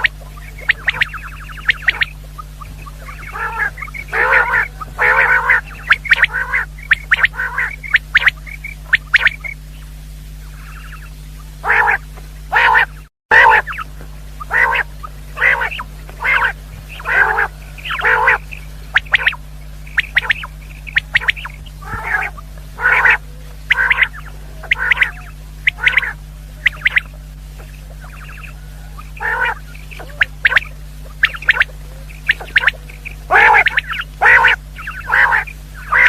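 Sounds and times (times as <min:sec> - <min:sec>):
thin high chirps: 0:00.0 - 0:09.7, 0:15.4 - 0:36.0
quail calling harsh notes: 0:00.0 - 0:36.0
steady low hum: 0:00.0 - 0:36.0.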